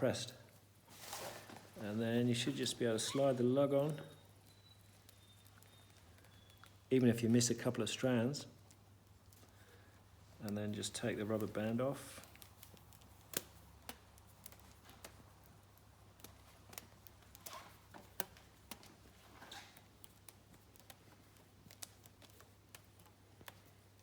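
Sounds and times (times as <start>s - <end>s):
small handling clicks and rustles: 0.4s - 24.0s.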